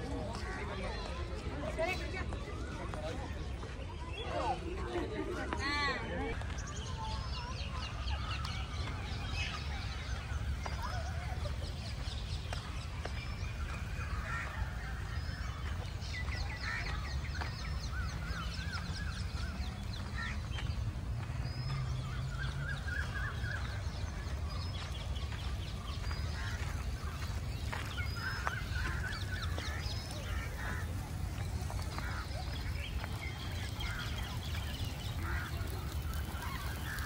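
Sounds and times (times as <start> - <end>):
birds calling and chirping: 0.0 - 37.0.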